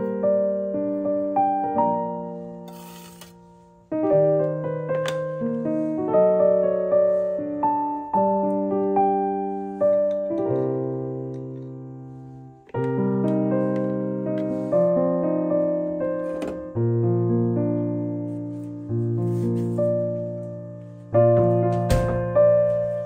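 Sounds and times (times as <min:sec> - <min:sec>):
slow solo piano music: 0:00.0 - 0:23.0.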